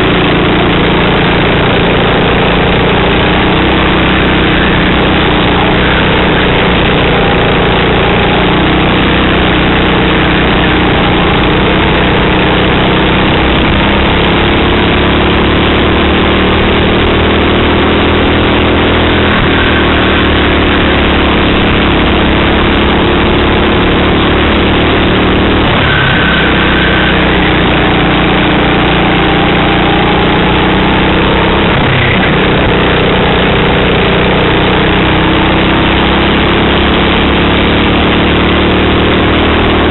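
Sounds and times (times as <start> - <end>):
kart engine revving: 0.0 - 39.9
rushing noise: 0.0 - 39.9.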